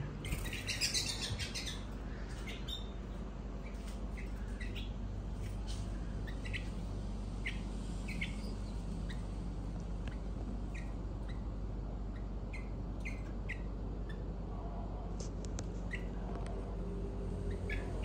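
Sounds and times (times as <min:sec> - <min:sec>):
bird chicks chirping: 0:00.0 - 0:14.4, 0:15.7 - 0:16.5, 0:17.3 - 0:18.0.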